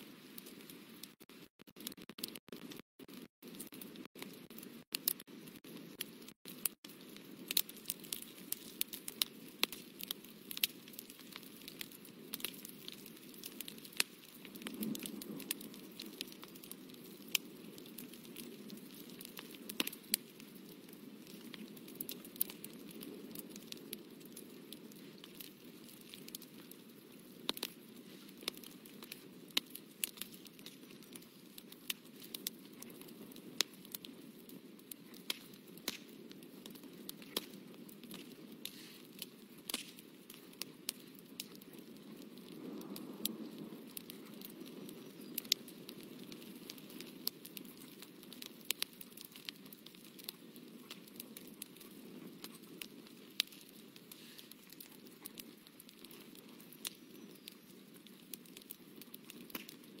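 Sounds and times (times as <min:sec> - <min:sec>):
faint steady rustle: 0:00.0 - 1:00.0.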